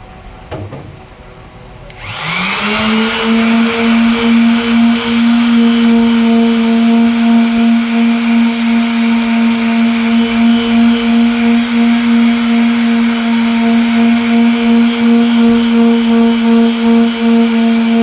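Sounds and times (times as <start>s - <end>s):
electric sander running: 1.9s - 18.0s.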